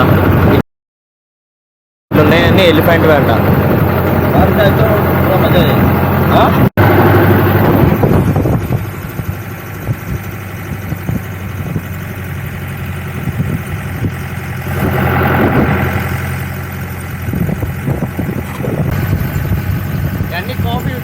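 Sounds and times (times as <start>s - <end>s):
jeep engine running: 2.1s - 21.0s.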